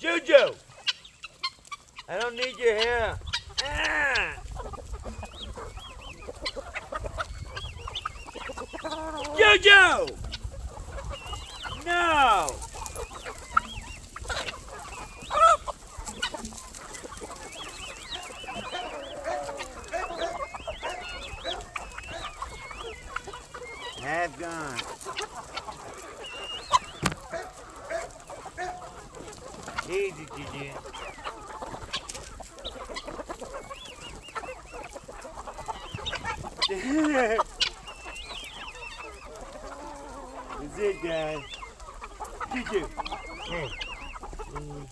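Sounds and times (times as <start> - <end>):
chicken squawk: 0.0 - 44.9
chickens clucking: 0.0 - 44.9.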